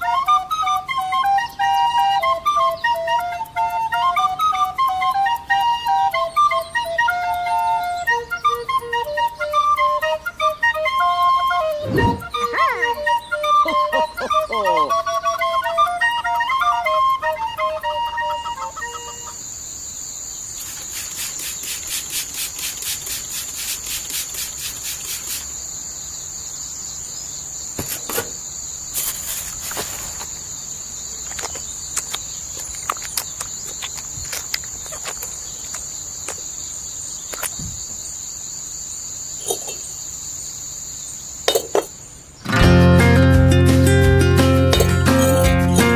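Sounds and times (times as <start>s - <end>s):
insects chirring: 0.0s - 45.9s.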